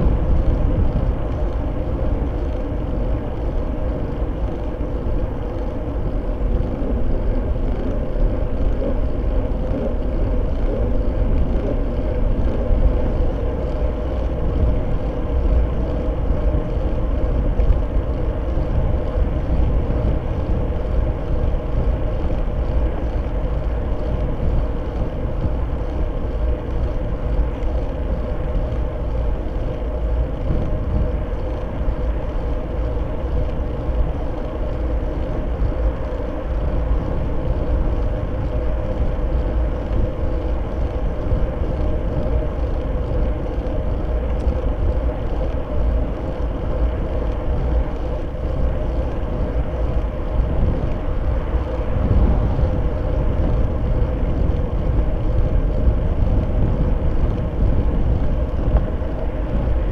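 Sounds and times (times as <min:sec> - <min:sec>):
wind rush on microphone: 0:00.0 - 0:59.9.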